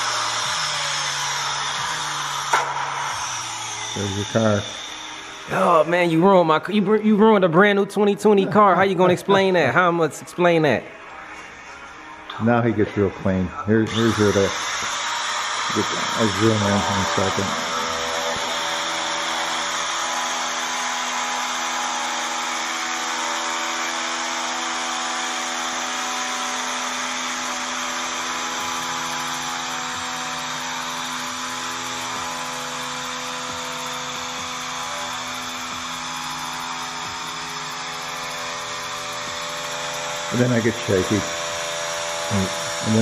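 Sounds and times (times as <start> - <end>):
power cutting tool whine: 0.0 - 43.0.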